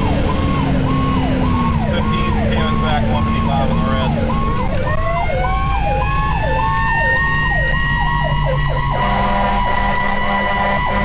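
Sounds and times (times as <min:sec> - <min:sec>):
fire engine rumble: 0:00.0 - 0:11.0
rising siren tone holding high note: 0:00.0 - 0:11.0
wailing siren: 0:00.0 - 0:11.0.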